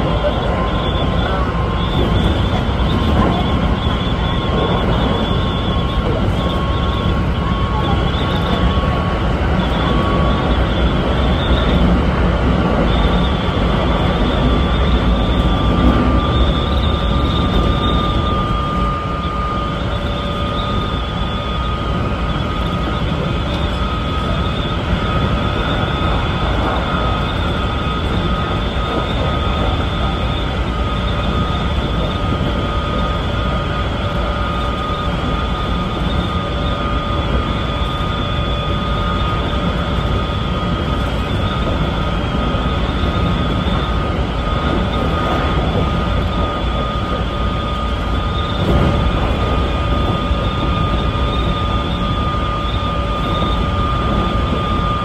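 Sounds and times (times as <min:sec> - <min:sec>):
thin motor whine: 0:00.0 - 0:55.0
wheel and track running noise: 0:00.0 - 0:55.0.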